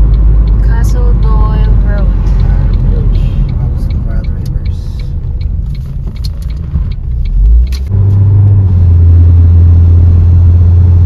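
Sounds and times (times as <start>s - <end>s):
road and tyre noise: 0.0s - 11.0s.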